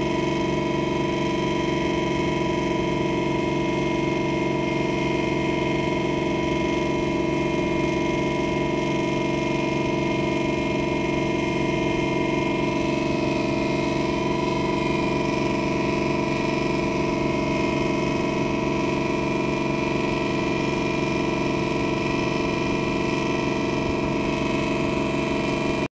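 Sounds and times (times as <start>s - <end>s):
boat engine humming: 0.0s - 25.9s.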